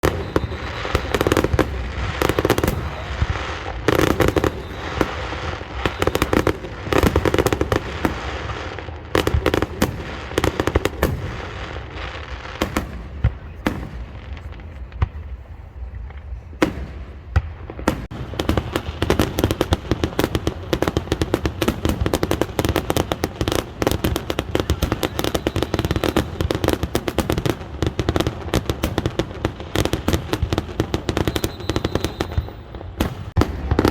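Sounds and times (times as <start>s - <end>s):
fireworks crackling: 0.0s - 33.9s.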